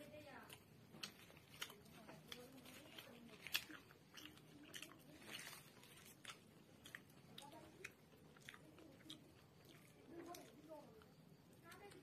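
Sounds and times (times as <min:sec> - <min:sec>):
egg roll tearing crackles: 0:00.6 - 0:10.6.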